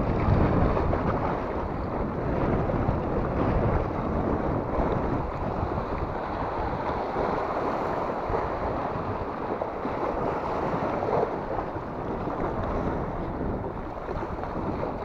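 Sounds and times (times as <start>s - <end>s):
sea waves breaking on rocks: 0.0s - 15.0s
strong wind buffeting microphone: 0.0s - 15.0s.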